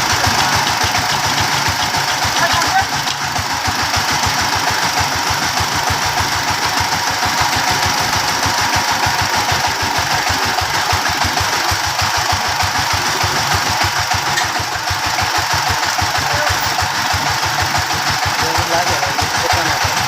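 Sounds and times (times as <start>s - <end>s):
engine chugging: 0.0s - 20.0s.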